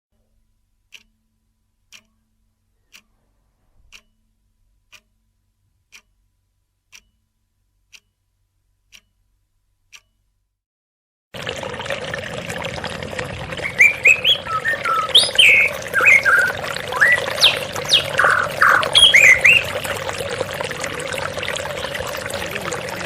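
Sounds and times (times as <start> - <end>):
faint clock-like ticking: 0.2 - 10.4, 13.6 - 23.0.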